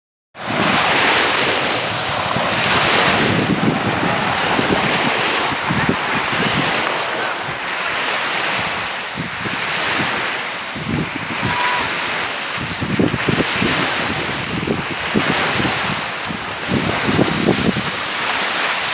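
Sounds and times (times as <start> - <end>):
waves washing onto shore: 0.4 - 18.9
wind buffeting microphone: 0.4 - 18.9.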